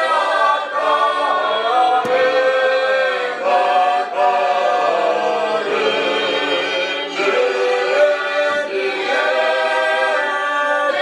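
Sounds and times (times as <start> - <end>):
choir singing unaccompanied: 0.0 - 11.0.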